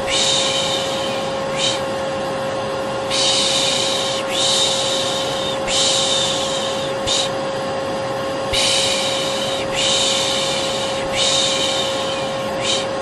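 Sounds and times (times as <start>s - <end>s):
person shushing: 0.0s - 1.9s, 3.1s - 7.4s, 8.5s - 13.0s
vacuum cleaner running: 0.0s - 13.0s.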